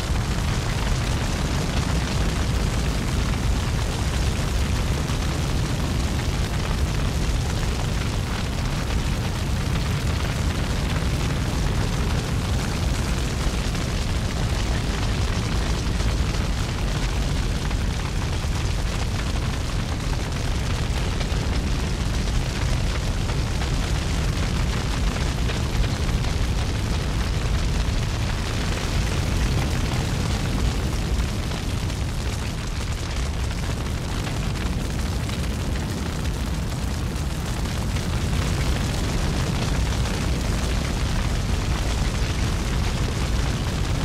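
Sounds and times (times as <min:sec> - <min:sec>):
steady low roaring rumble: 0:00.0 - 0:44.0.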